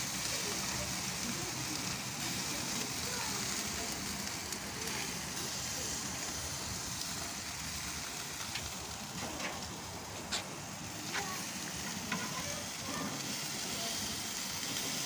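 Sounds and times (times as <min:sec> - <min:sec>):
faint crackles: 0:00.0 - 0:15.0
sausages sizzling on a grill: 0:00.0 - 0:15.0.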